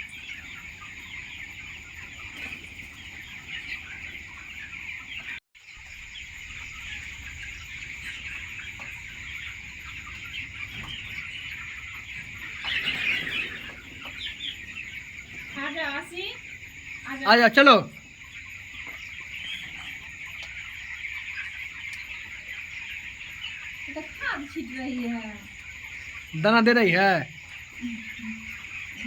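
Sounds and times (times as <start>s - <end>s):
chickens clucking and cheeping: 0.0s - 29.0s.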